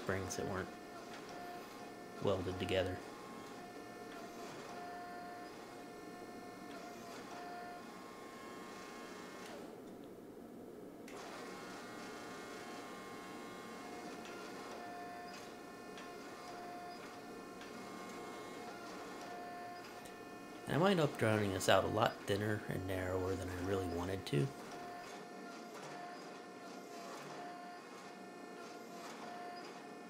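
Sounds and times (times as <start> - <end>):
electric motor and pump whirring: 0.0 - 10.0, 11.0 - 30.0.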